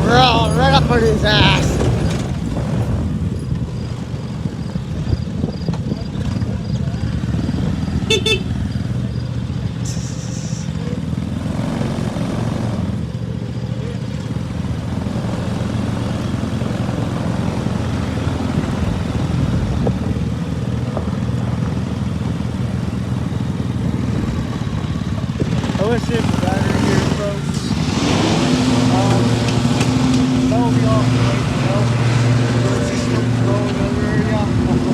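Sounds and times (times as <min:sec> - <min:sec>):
small gasoline engine drone: 0:00.0 - 0:34.9.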